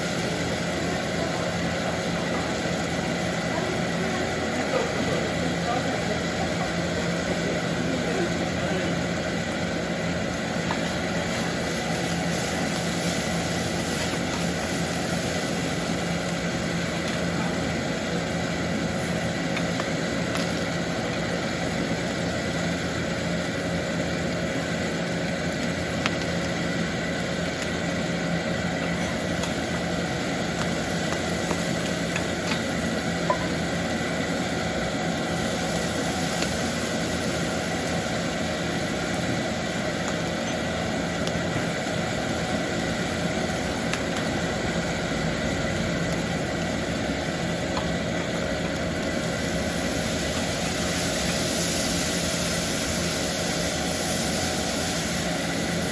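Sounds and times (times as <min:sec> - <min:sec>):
meat sizzling on a griddle: 0:00.0 - 0:55.9
steady mechanical hum: 0:00.0 - 0:55.9.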